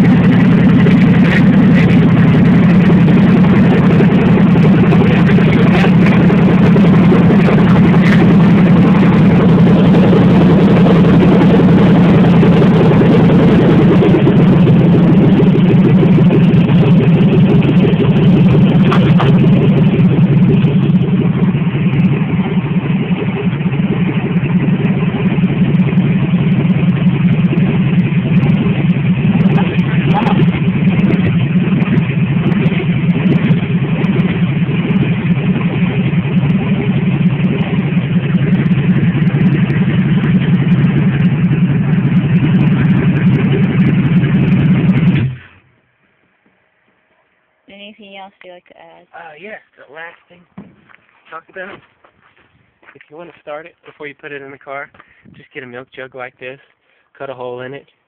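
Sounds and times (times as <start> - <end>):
engine idling: 0.0 - 48.2, 49.1 - 58.0.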